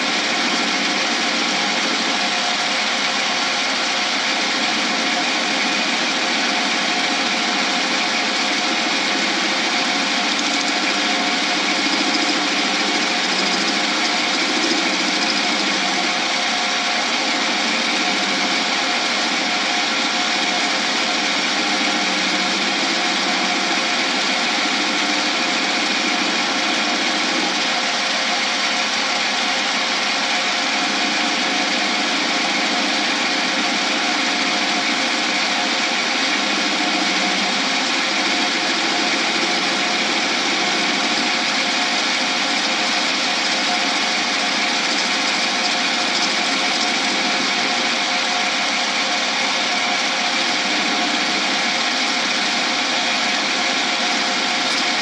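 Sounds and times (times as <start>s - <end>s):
lathe running: 0.0s - 55.0s.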